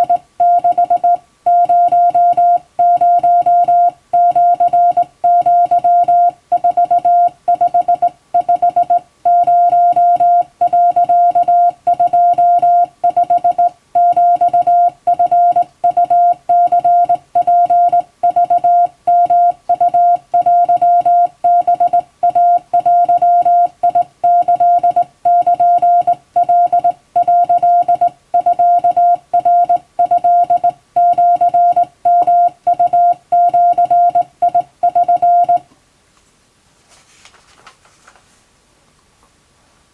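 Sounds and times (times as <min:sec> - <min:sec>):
morse code tone: 0:00.0 - 0:35.6.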